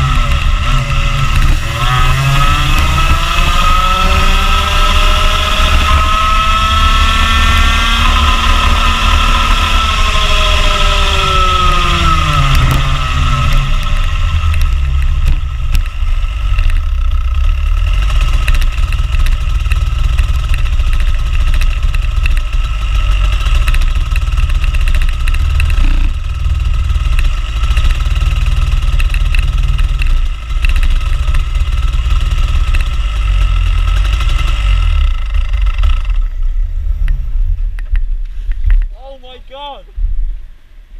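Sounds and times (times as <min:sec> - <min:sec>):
kart engine running: 0:00.0 - 0:38.2.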